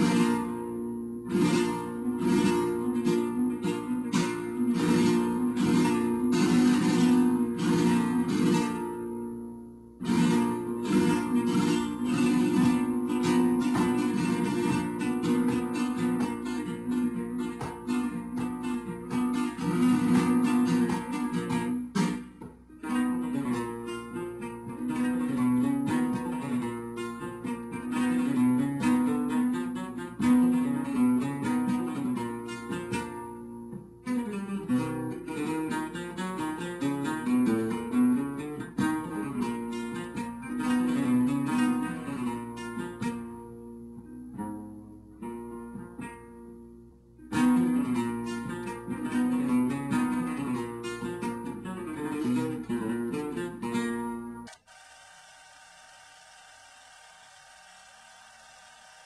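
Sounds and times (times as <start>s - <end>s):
strummed guitar music: 0.0s - 54.6s.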